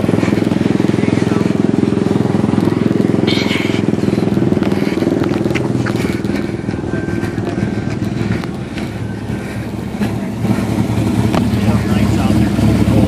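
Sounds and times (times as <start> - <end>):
car engine pulsing exhaust rumble: 0.0 - 13.0.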